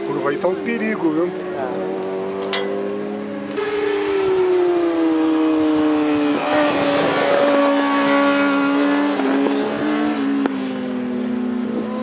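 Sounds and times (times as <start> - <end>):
racing motorcycles high revs: 0.0 - 12.0.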